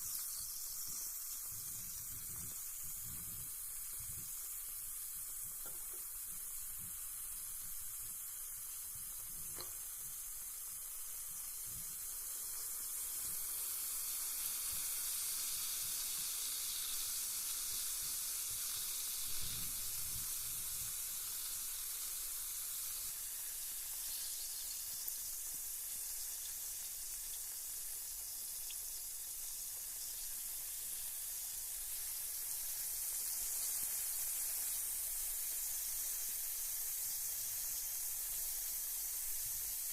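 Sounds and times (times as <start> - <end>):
bath bomb fizzing: 0.0 - 39.9.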